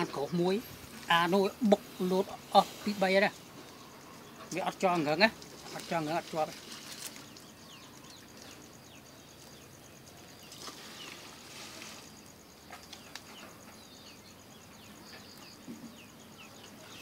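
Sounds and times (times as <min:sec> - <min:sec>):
birds chirping: 0:00.0 - 0:17.0
insect trilling: 0:00.0 - 0:17.0.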